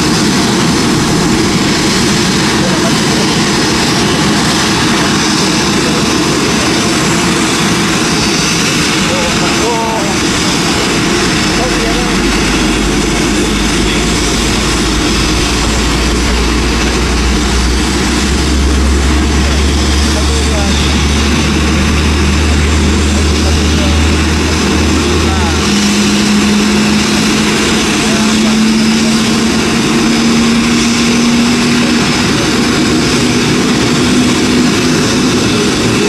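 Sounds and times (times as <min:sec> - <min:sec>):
jet engine rushing and hissing: 0:00.0 - 0:36.0
steady low drone: 0:00.0 - 0:36.0.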